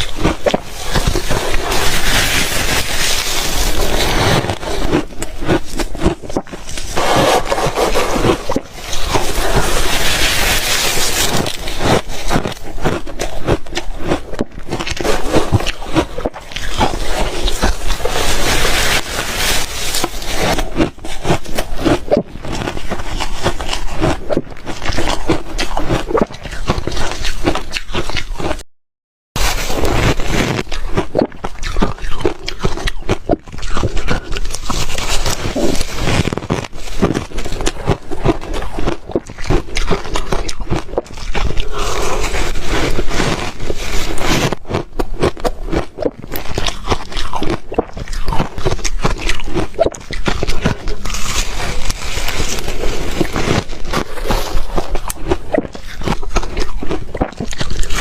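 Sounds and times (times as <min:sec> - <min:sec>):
ice crunching in mouth: 0:00.0 - 0:28.6, 0:29.4 - 0:58.0.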